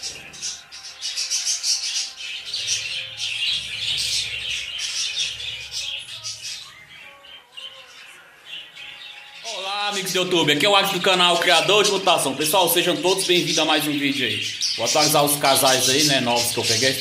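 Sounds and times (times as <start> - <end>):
budgerigars chattering and chirping: 0.0 - 17.0.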